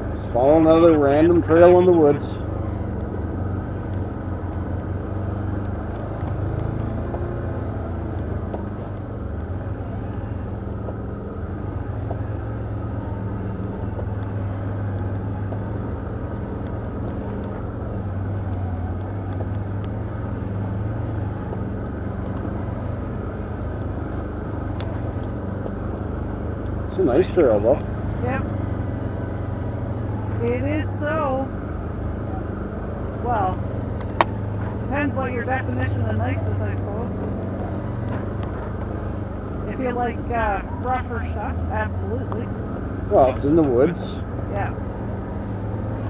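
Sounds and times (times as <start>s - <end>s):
quad bike engine running: 0.0s - 46.0s.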